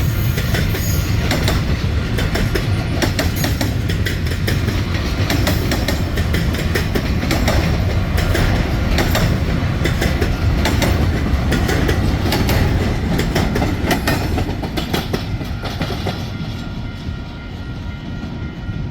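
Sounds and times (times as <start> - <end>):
wheels clacking over rail joints: 0.0 - 16.8
freight train rumbling past: 0.0 - 18.9.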